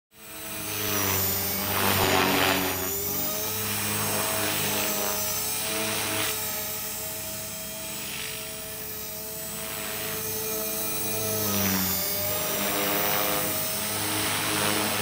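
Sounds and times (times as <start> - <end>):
model helicopter engine and rotor whine: 0.1 - 15.0.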